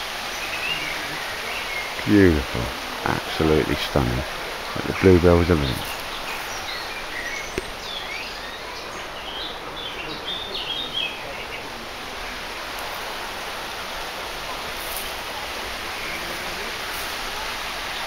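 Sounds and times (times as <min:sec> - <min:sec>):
songbirds chirping: 0:00.0 - 0:18.0
stream water rushing: 0:00.0 - 0:18.0.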